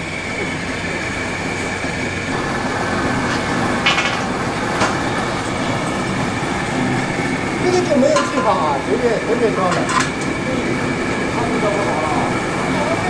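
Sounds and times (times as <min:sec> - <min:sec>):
machinery noise with high whine: 0:00.0 - 0:13.0.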